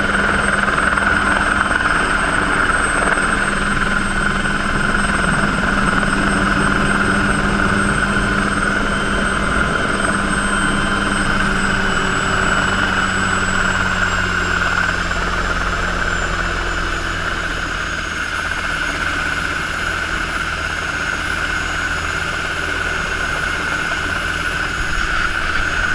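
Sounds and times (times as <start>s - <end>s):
low hum: 0.0s - 21.0s
helicopter rotor noise: 0.0s - 25.9s
turbine whine: 0.0s - 25.9s.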